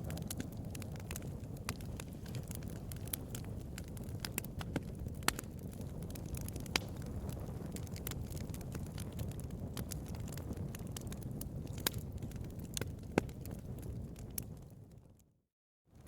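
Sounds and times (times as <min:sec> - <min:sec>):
loud pops from fire: 0:00.0 - 0:14.7
bonfire crackling: 0:00.0 - 0:15.1.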